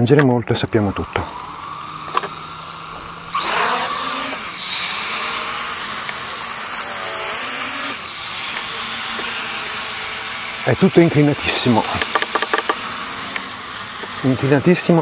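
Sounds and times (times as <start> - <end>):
quadcopter propellers whirring: 0.0 - 15.0.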